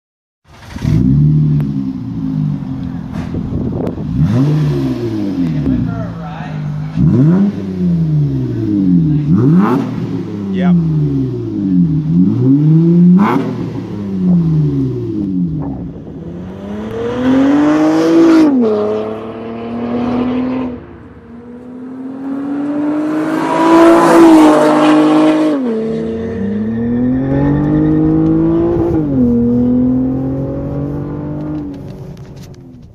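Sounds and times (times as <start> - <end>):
car accelerating hard: 0.5 - 6.0, 6.6 - 32.5.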